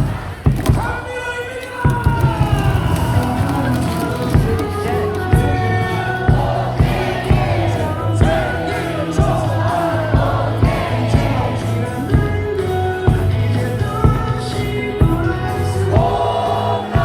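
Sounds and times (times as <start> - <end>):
cheer song over loudspeakers: 0.0 - 17.0
crowd of fans singing along: 0.0 - 17.0.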